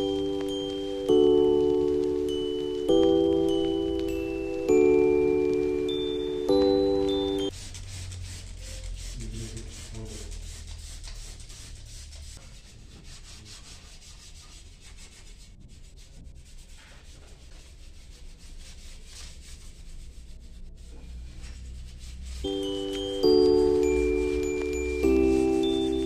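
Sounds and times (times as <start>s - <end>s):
brush scrubbing: 0.0s - 26.0s.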